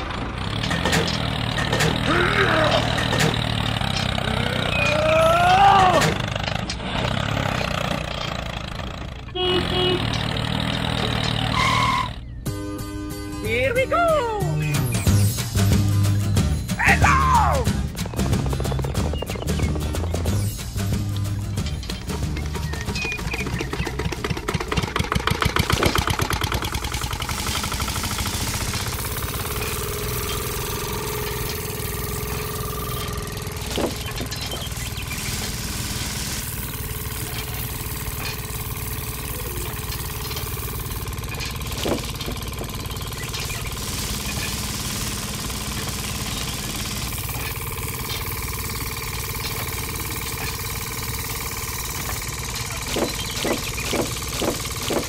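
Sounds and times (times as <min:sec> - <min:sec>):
model tractor engine running: 0:00.0 - 0:12.4, 0:14.6 - 0:55.0.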